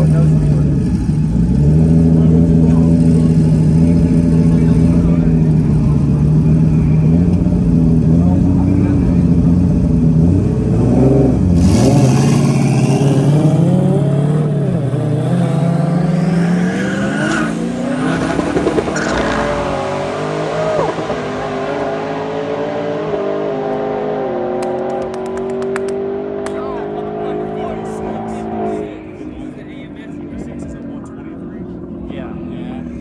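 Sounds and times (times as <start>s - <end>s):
race car engines at full throttle: 0.0s - 33.0s.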